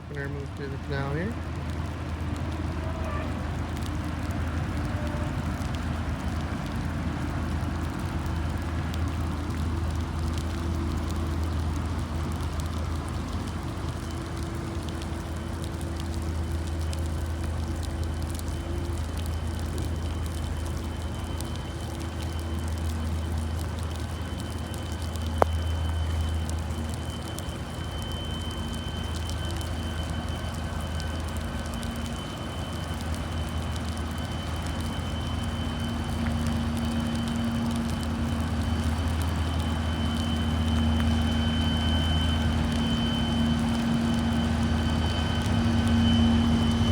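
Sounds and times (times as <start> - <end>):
ship engines rumbling: 0.0 - 20.5, 25.0 - 46.9
rain pattering: 0.0 - 46.9.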